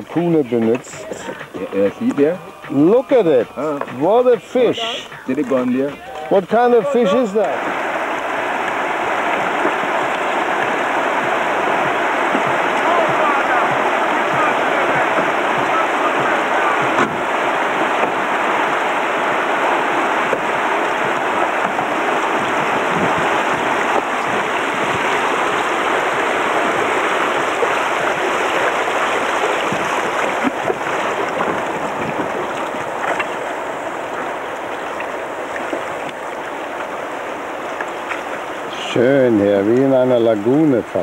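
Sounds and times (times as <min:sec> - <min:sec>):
river water rushing over rocks: 0:00.0 - 0:41.0.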